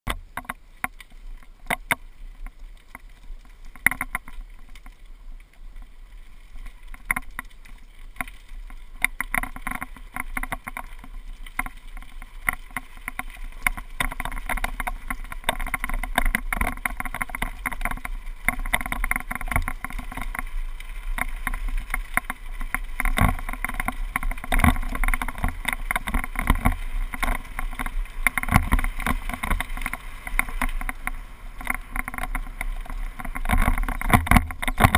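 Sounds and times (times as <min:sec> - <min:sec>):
bike tyres on gravel: 0:00.1 - 0:34.9.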